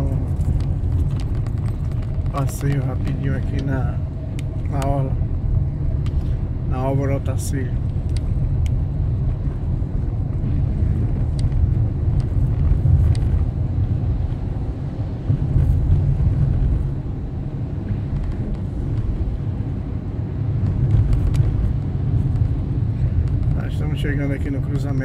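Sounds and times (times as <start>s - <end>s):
engine and tyres rumbling: 0.0s - 25.0s.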